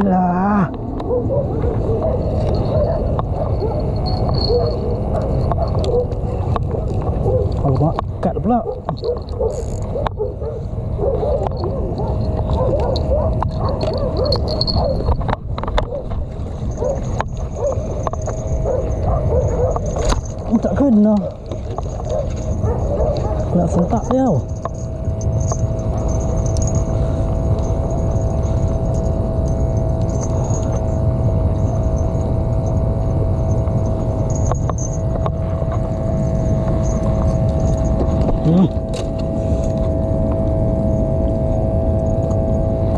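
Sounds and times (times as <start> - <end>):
mid-pitched hum: 0.0 - 42.9
wind rumble on microphone: 0.0 - 42.9.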